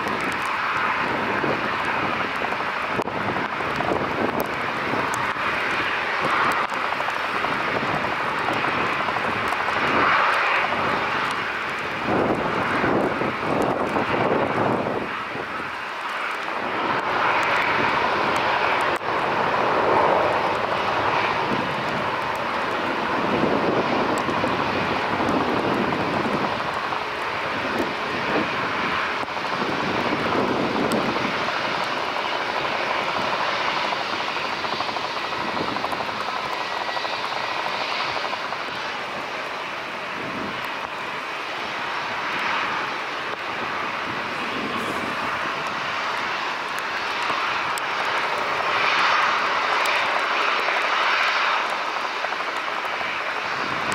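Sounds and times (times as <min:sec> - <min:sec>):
distant jet engines: 0:00.0 - 0:53.9.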